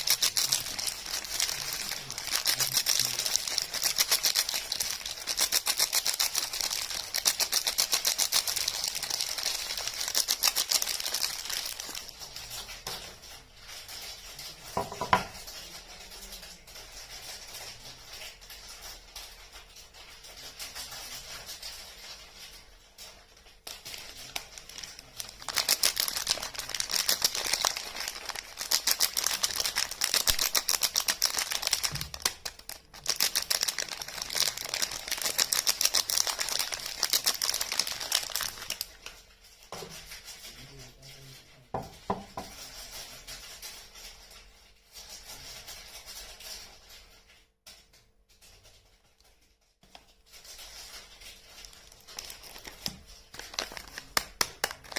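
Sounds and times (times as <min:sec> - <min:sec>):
packaging crinkling and rustling: 0:00.0 - 0:40.5, 0:42.4 - 0:54.9.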